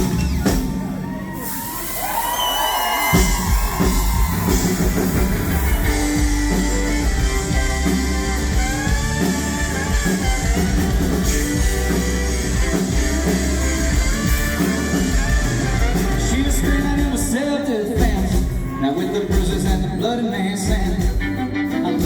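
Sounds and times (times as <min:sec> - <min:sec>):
drum kit: 0:00.0 - 0:22.0
electric guitar: 0:00.0 - 0:22.0.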